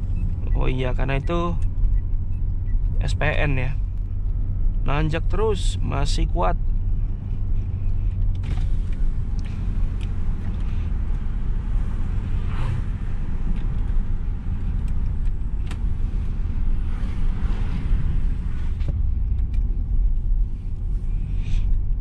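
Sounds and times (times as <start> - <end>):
engine and road noise rumble: 0.0 - 22.0.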